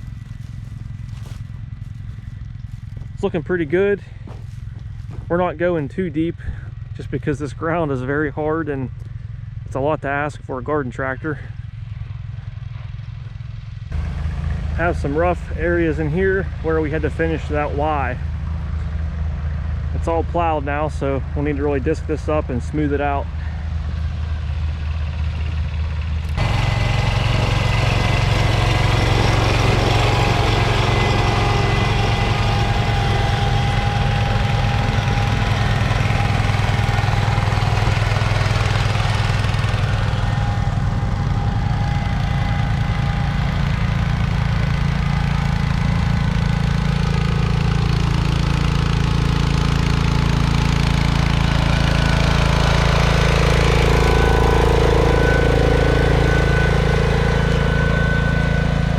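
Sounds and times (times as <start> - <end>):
garden tractor engine running: 0.0 - 58.9.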